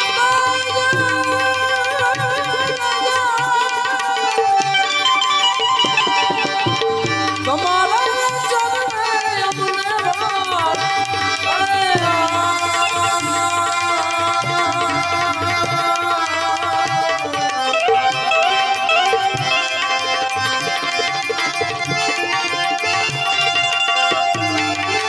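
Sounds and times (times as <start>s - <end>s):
folk music melody: 0.0s - 25.0s
tabla rhythm: 0.0s - 25.0s.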